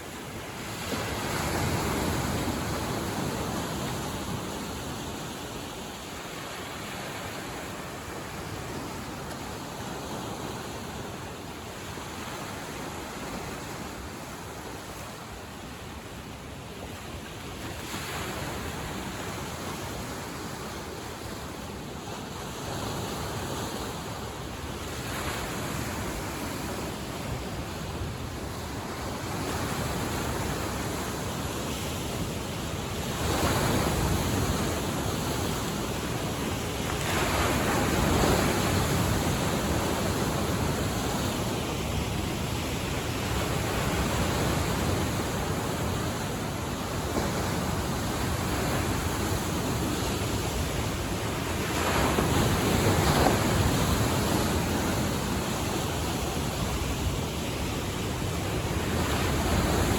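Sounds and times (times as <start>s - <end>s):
waves washing onto shore: 0.0s - 59.9s
wind: 0.0s - 59.9s.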